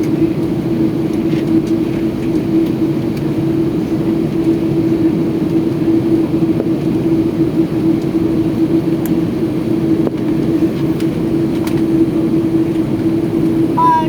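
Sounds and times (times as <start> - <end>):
constant humming tone: 0.0 - 14.0
jet engine and airflow rushing: 0.0 - 14.0.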